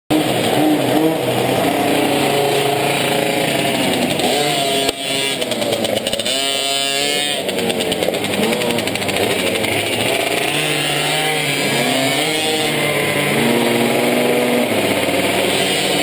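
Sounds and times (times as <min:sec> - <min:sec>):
engine revving: 0:00.1 - 0:16.0
small two-stroke engines idling: 0:00.1 - 0:16.0.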